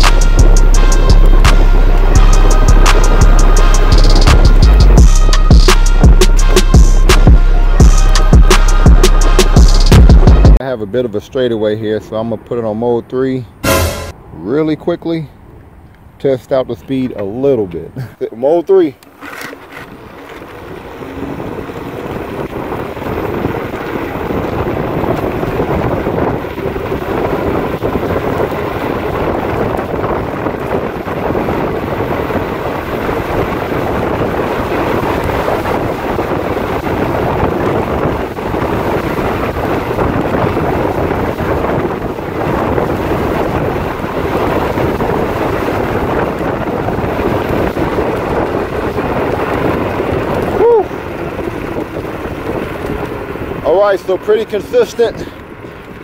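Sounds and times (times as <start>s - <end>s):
wind rushing over microphone: 0.0s - 19.0s, 19.9s - 56.0s.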